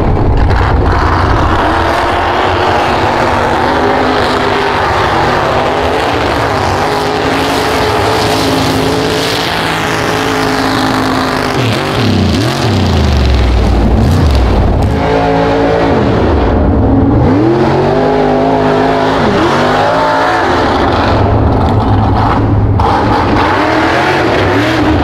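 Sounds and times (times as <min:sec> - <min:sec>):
truck engine revving hard: 0:00.0 - 0:25.0.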